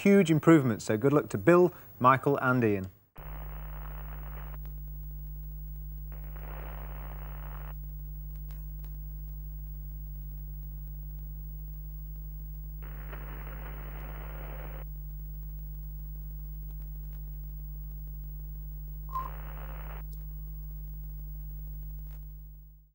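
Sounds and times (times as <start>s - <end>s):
low electrical hum: 0.1s - 22.9s
hissing static bursts: 3.2s - 22.4s.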